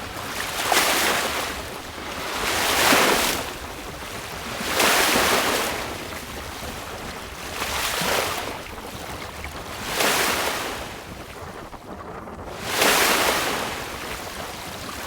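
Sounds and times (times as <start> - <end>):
sea water splashing against hull: 0.0 - 15.0
wind over microphone: 0.0 - 15.0.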